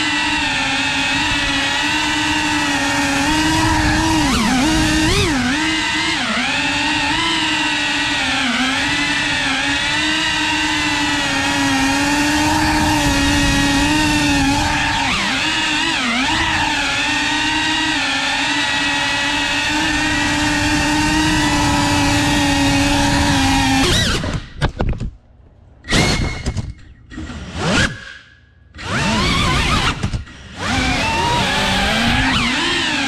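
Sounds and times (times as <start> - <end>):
drone motors whining: 0.0 - 24.7, 25.8 - 33.0.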